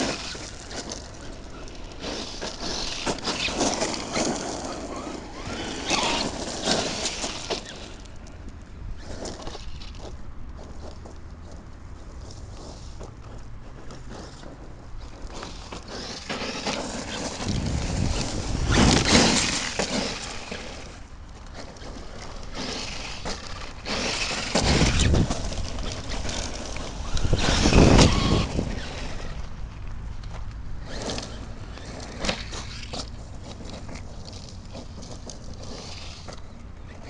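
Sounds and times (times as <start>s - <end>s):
rc truck motor and tyres: 0.0s - 37.0s.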